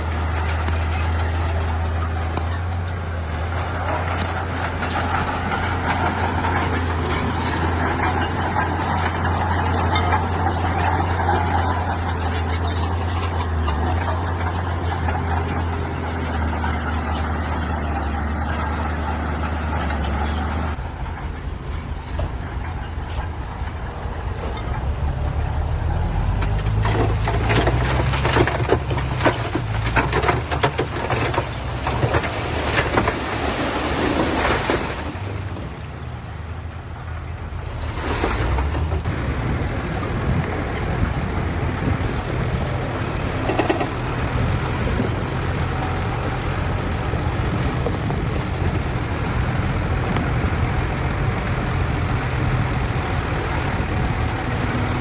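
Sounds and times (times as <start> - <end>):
clatter of knocks and scraping: 0.0 - 55.0
diesel construction machine running: 0.0 - 55.0.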